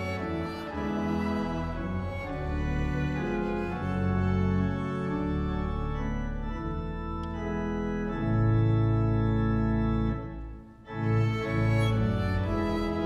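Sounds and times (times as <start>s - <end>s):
organ playing hymn chords: 0.0s - 13.0s.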